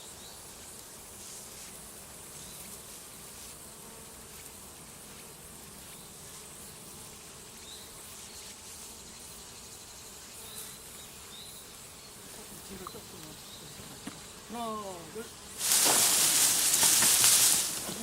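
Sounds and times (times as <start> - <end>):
bees buzzing: 2.1 - 18.0.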